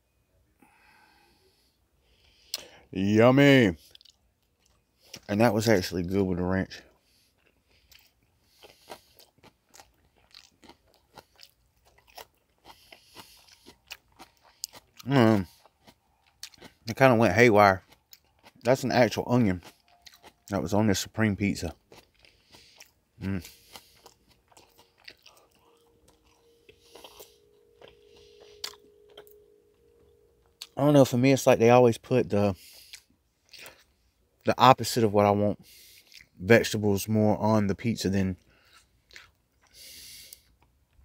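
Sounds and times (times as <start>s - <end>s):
mouth chewing crunchy food: 2.2s - 2.8s, 3.5s - 31.2s, 32.3s - 34.7s, 35.6s - 36.5s, 38.3s - 41.0s.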